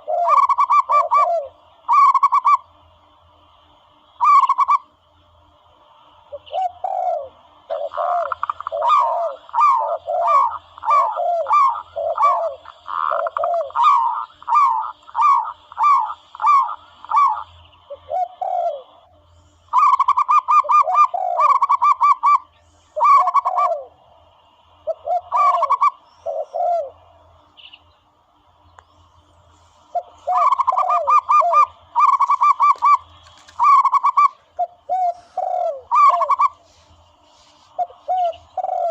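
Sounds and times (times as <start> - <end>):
dove cooing: 0.0 - 2.7, 4.2 - 4.9, 6.3 - 19.0, 19.7 - 24.0, 24.7 - 27.2, 29.8 - 38.9.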